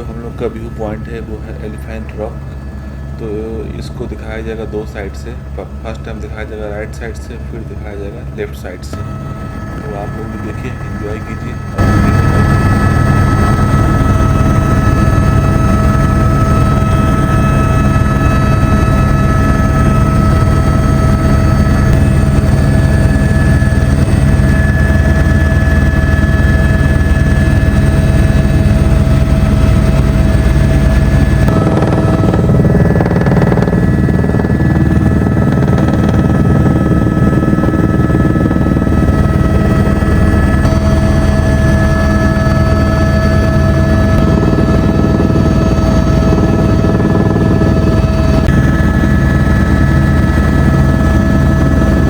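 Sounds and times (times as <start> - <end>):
helicopter rotor and engine: 0.0 - 52.0
high whine: 0.0 - 52.0.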